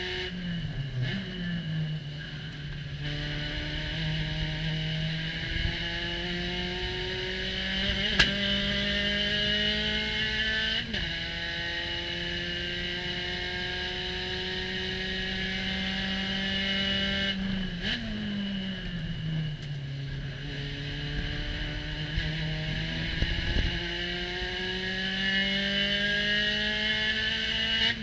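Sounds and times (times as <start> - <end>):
racing car engine at full throttle: 0.0 - 28.0.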